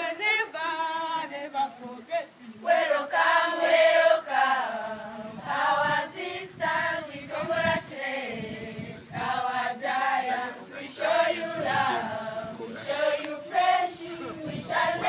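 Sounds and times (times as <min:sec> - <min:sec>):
girls' choir singing unaccompanied: 0:00.0 - 0:15.0.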